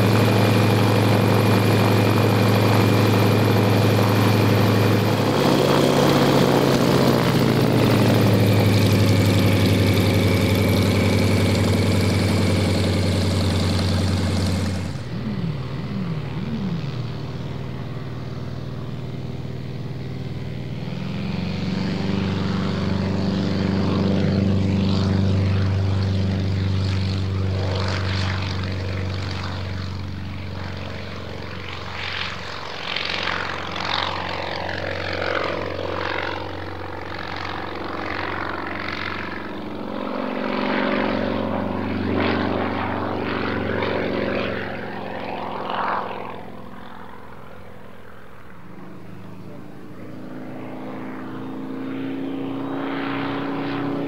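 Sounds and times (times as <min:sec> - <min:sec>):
propeller aircraft engine droning: 0:00.0 - 0:54.0.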